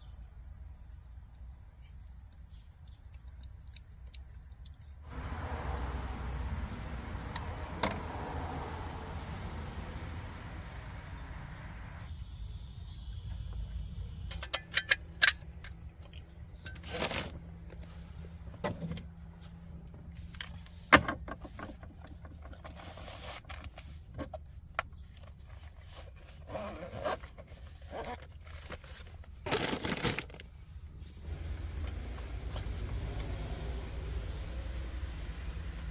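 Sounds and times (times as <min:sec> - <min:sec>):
road traffic hum: 0:03.3 - 0:25.9, 0:29.2 - 0:35.9.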